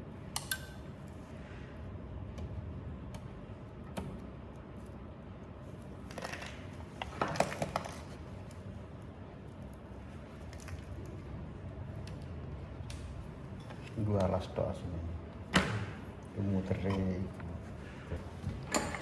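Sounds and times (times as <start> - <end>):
low steady background hum: 0.0 - 19.0.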